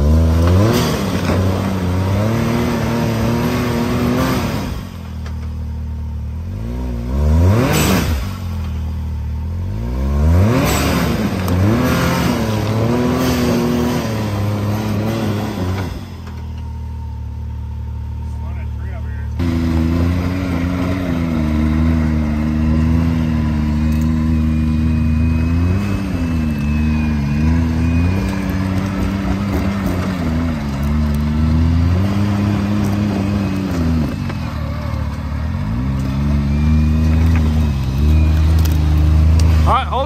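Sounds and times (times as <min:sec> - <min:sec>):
engine revving under load: 0:00.0 - 0:40.0.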